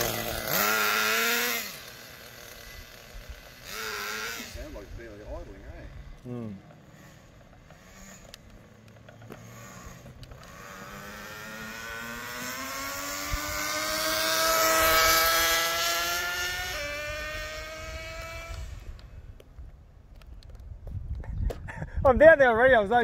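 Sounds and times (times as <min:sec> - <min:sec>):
rc car engine high-pitched whine: 0:00.0 - 0:19.2.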